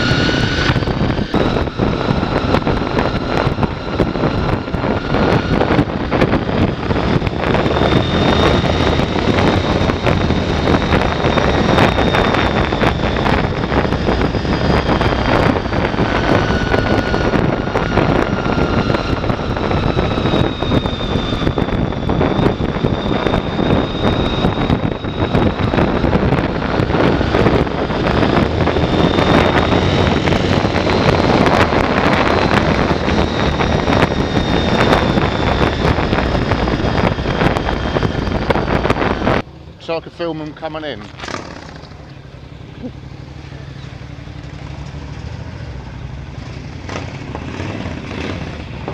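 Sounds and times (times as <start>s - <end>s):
faint wavering high whine: 0.0s - 46.4s
motorcycle engine running: 0.0s - 48.9s
wind rushing over microphone: 0.0s - 48.9s.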